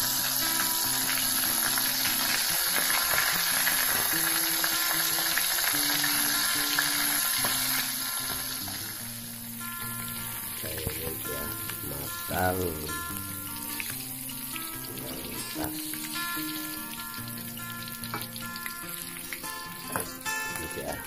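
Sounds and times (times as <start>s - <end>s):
chicken frying in hot oil: 0.0s - 21.0s
slow background music: 0.0s - 21.0s.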